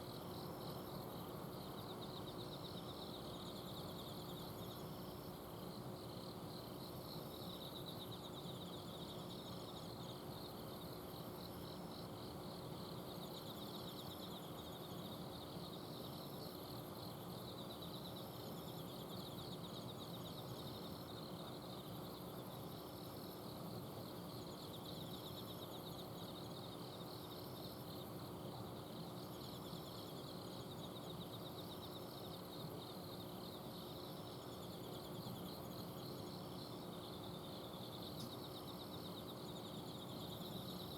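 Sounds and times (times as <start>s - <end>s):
insects chirping and trilling: 0.0s - 40.9s.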